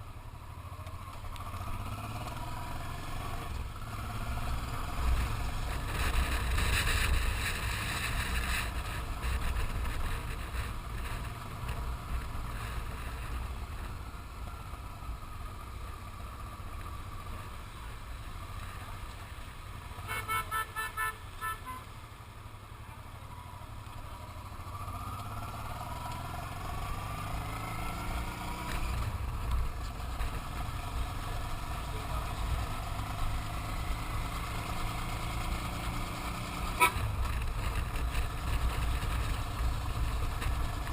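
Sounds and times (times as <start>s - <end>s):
motorcycle engine rumble: 0.0s - 40.9s.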